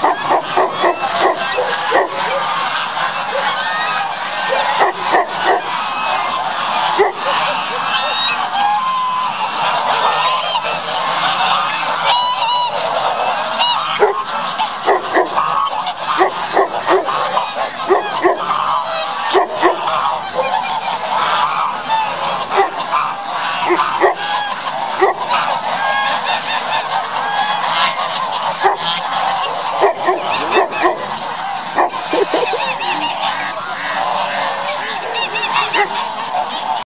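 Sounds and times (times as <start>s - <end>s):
geese honking: 0.0s - 36.9s.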